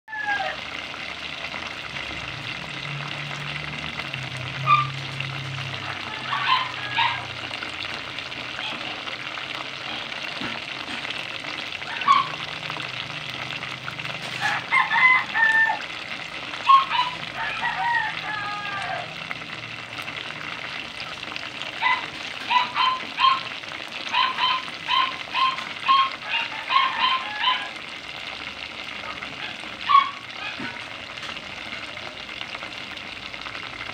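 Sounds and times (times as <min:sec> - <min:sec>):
chicken deep-frying in oil: 0:00.1 - 0:33.9.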